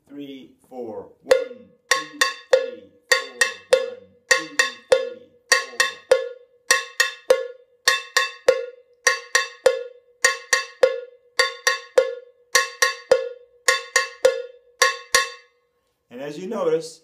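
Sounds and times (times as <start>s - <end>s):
cowbell struck with stick: 1.3s - 15.5s.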